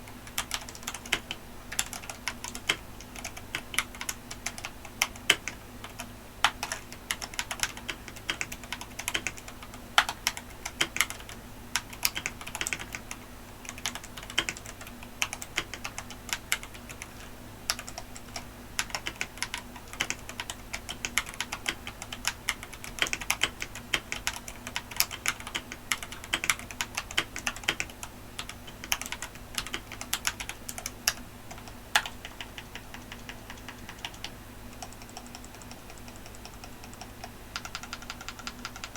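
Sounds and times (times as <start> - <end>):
mechanical keyboard typing: 0.1 - 38.9.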